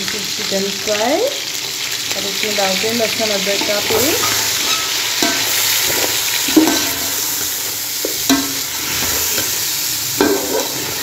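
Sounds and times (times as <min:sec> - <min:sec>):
chicken and onions sizzling: 0:00.0 - 0:11.0.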